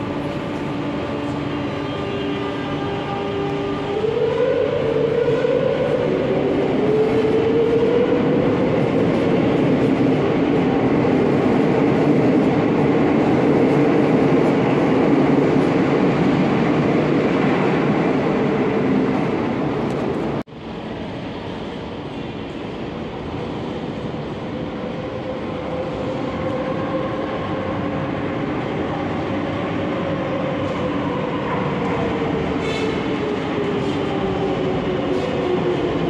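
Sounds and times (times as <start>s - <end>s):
train wheel and rail noise: 0.0s - 36.0s.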